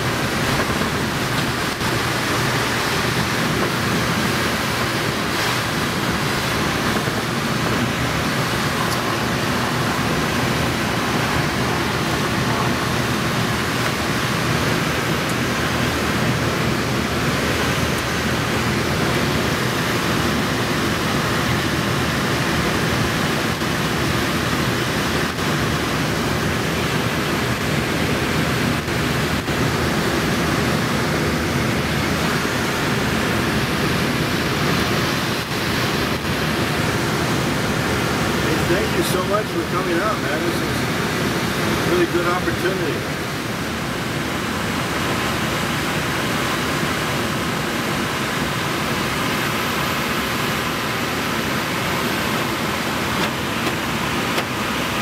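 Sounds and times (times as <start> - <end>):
air rushing over glider canopy: 0.0 - 55.0
low airplane engine hum: 0.0 - 55.0.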